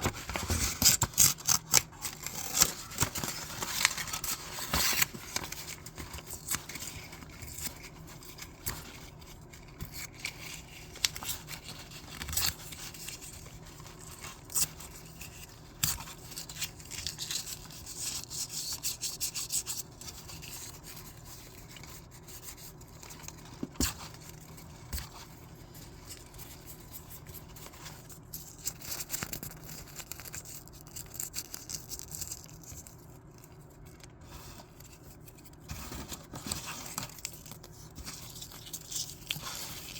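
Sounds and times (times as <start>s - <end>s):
paper rustling and ripping: 0.0s - 39.9s.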